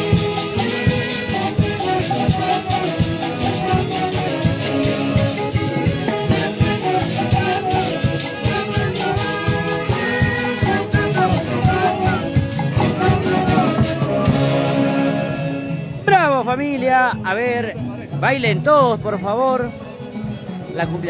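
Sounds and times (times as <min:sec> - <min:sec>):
live band playing latin dance music: 0:00.0 - 0:17.0.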